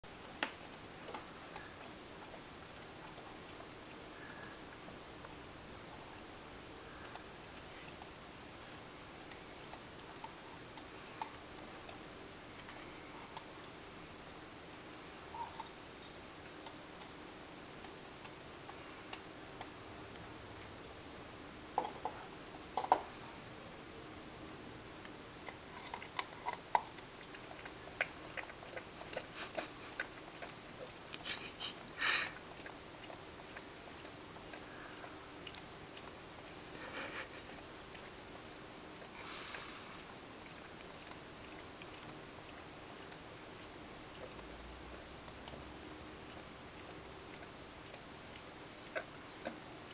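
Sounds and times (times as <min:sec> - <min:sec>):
dog licking: 0:00.1 - 0:20.7, 0:25.5 - 0:49.9.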